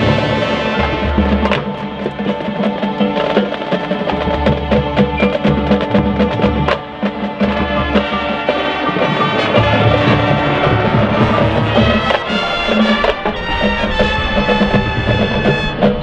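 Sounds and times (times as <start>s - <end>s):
brass and winds holding chords: 0.0s - 16.0s
sharp percussion hits: 0.0s - 16.0s.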